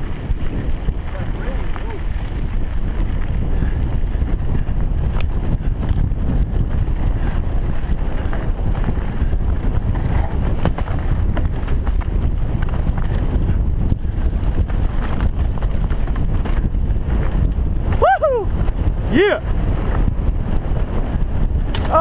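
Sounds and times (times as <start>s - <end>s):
bike clicks and clatters: 0.0s - 22.0s
wind rumble on microphone: 0.0s - 22.0s.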